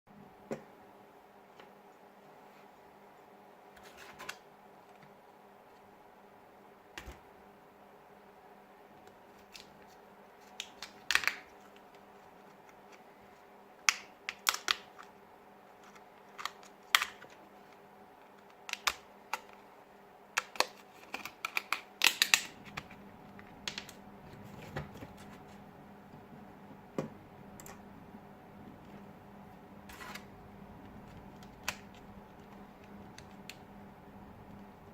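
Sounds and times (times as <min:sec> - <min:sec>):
faint electrical hum: 0:00.1 - 0:34.9.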